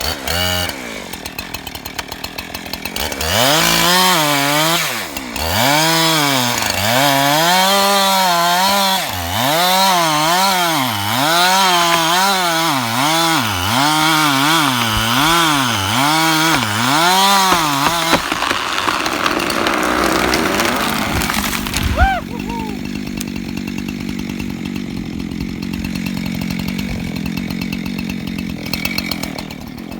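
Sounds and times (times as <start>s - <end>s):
chainsaw cutting a tree: 0.0s - 29.9s.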